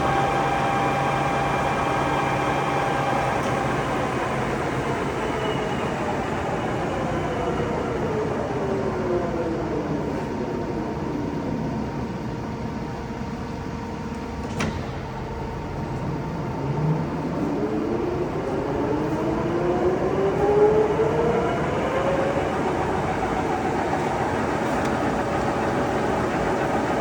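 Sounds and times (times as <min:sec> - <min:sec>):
lathe drive hum: 0:00.0 - 0:27.0.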